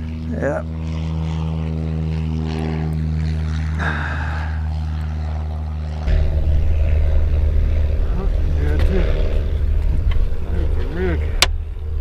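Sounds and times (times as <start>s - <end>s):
steady engine drone: 0.0s - 12.0s.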